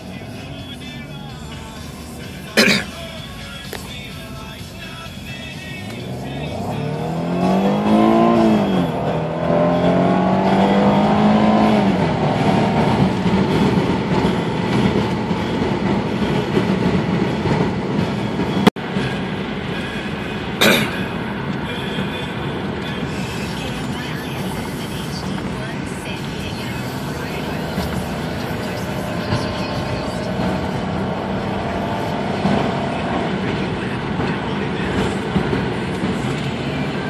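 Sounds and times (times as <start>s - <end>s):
car engine revving at full throttle: 0.0s - 37.0s.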